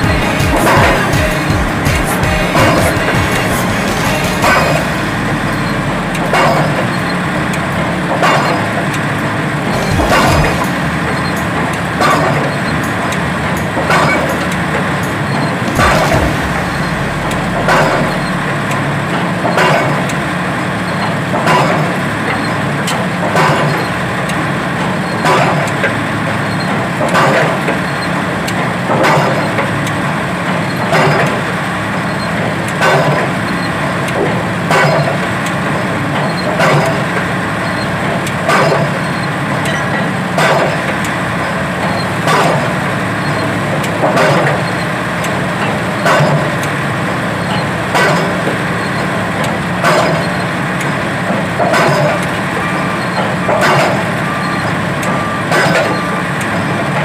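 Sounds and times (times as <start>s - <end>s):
pile-driving hammer blows: 0.0s - 57.0s
rig engine running: 0.0s - 57.0s.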